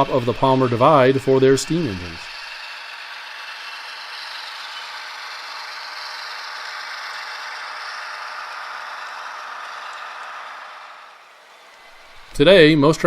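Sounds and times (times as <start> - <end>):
model train running on track: 0.0 - 13.0.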